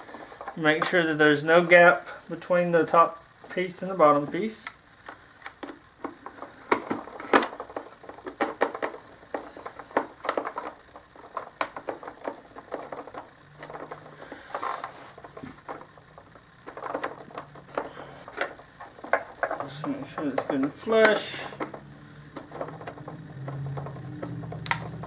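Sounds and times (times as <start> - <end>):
hard plastic parts clicking: 0.0 - 25.0.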